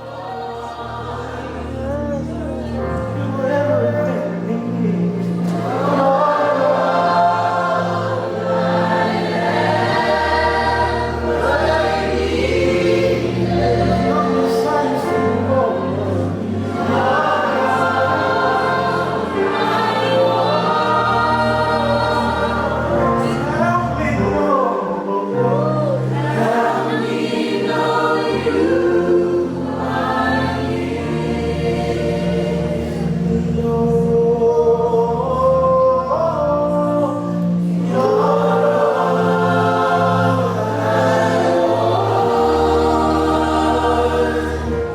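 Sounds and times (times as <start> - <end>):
group singing gospel song: 0.0 - 44.9.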